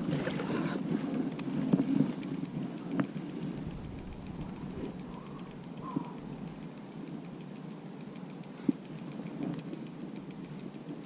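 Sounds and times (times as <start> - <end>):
sharp click: 1.0 - 11.0.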